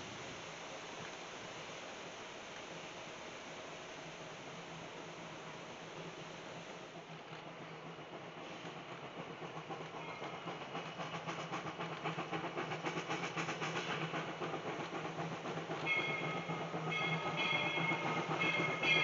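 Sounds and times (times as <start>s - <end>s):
steam locomotive exhaust: 0.0s - 19.0s.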